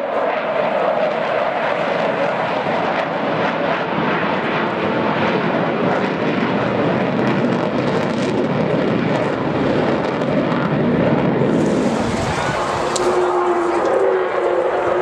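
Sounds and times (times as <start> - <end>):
jet aircraft engines roaring: 0.0 - 15.0.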